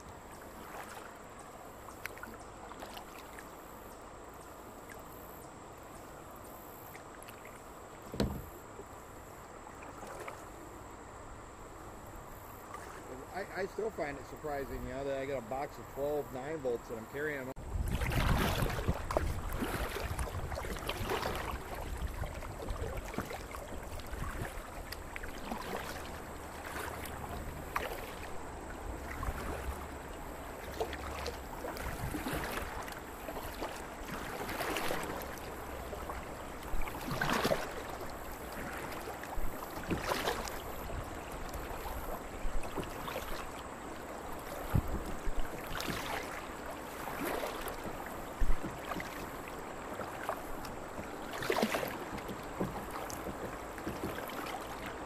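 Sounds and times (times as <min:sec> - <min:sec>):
kayak paddle splashing: 0:00.0 - 0:55.0
moving water: 0:00.0 - 0:55.0.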